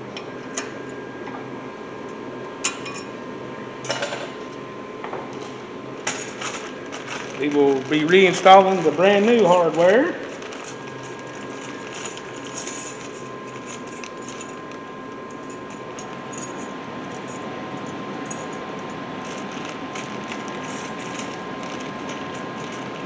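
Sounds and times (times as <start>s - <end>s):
background hum with faint tone: 0.0s - 23.0s.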